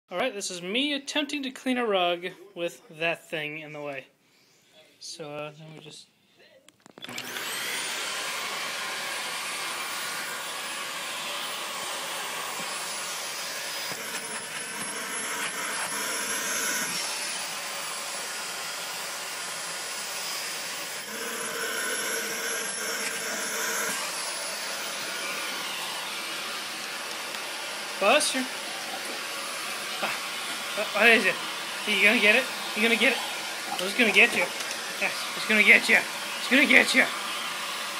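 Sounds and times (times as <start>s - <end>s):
vacuum cleaner drone: 7.0s - 37.9s.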